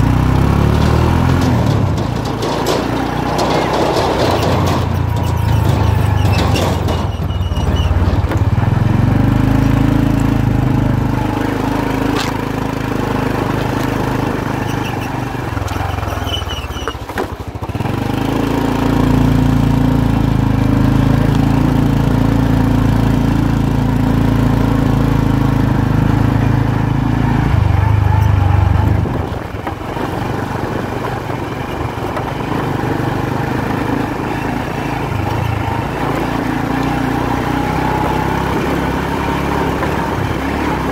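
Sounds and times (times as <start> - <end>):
motorbike engine running: 0.0 - 40.9.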